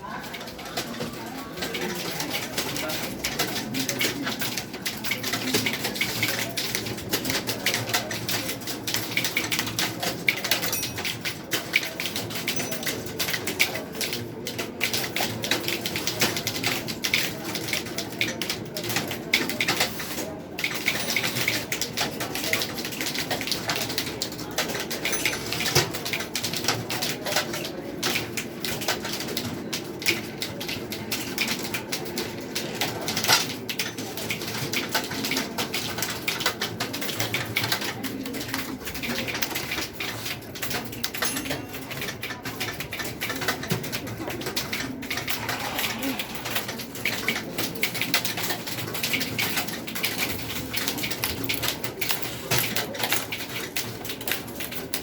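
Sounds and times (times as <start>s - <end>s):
keyboards typing clatter: 0.0s - 55.0s.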